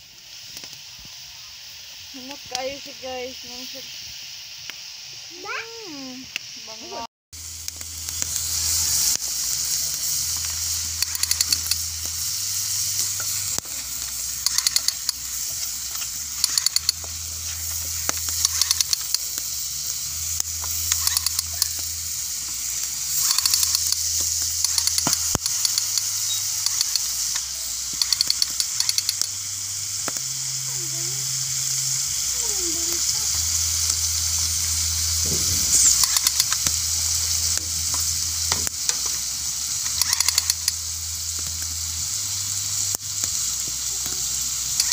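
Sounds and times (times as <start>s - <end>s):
grubs sizzling in oil: 0.0s - 44.9s
sharp crackles: 0.0s - 44.9s.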